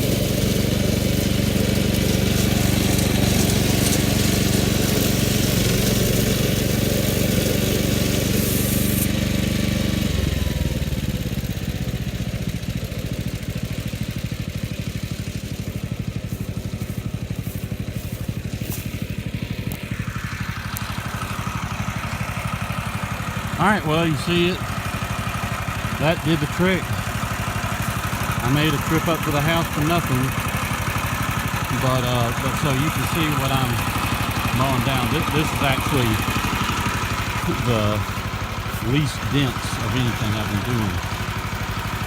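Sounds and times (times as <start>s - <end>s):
brush mower engine running: 0.0s - 42.0s.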